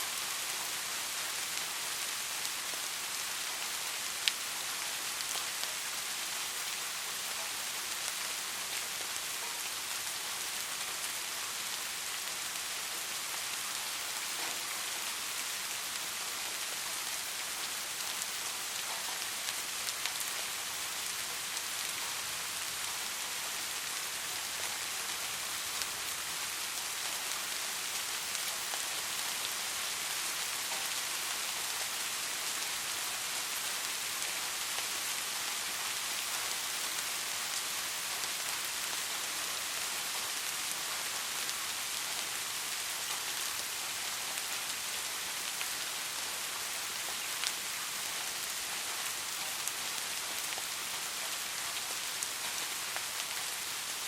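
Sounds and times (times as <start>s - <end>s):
soft rain hissing: 0.0s - 54.0s
raindrops pattering: 0.1s - 54.0s.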